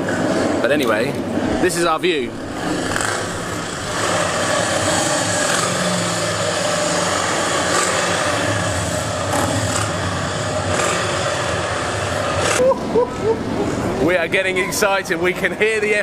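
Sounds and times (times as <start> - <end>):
continuous haze of noise: 0.0 - 16.0
motorcycle engines droning: 0.0 - 16.0.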